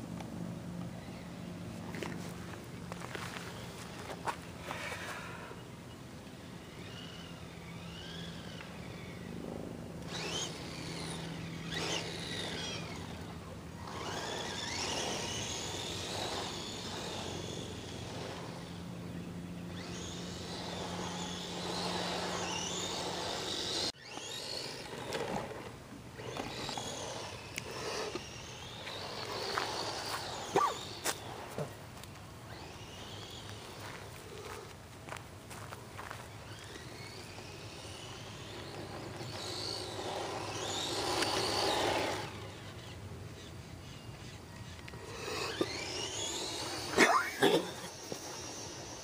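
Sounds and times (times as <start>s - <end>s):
rc truck motor whining: 0.7s - 49.0s.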